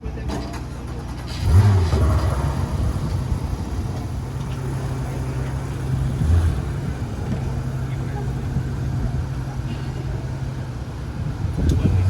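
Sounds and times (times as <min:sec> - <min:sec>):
car engine starting and idling: 0:00.0 - 0:12.0.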